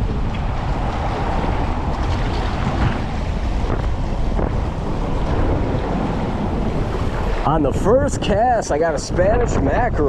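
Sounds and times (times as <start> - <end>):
moving water: 0.0 - 10.0
wind buffeting microphone: 0.0 - 10.0.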